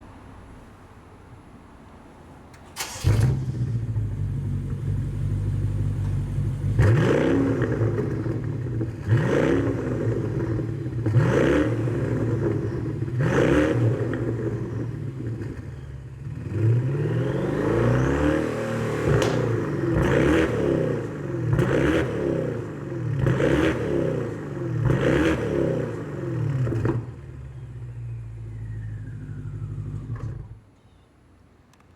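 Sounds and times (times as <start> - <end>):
car engine idling and revving: 0.0 - 30.7.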